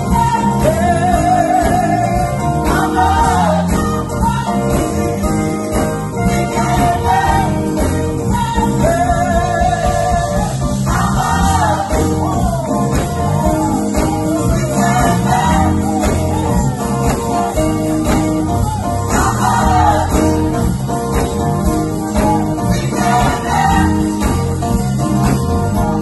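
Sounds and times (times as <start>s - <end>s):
bass: 0.0s - 26.0s
gospel choir singing: 0.0s - 26.0s
guitar: 0.0s - 26.0s.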